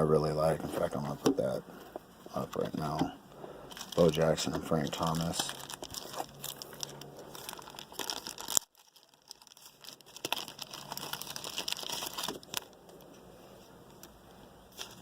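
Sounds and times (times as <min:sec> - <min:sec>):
plastic crinkling and rustling: 0:00.5 - 0:14.1, 0:14.7 - 0:15.0.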